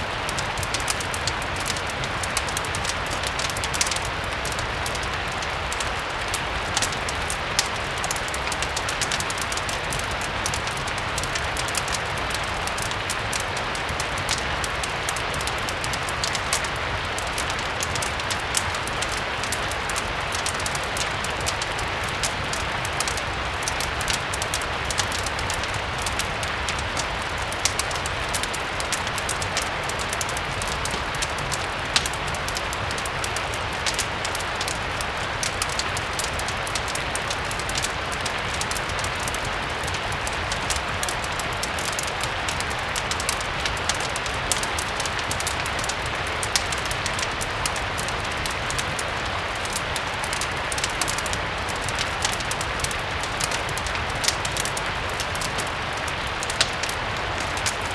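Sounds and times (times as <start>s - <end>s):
steady rain hiss: 0.0s - 57.9s
wood fire crackling: 0.0s - 57.9s.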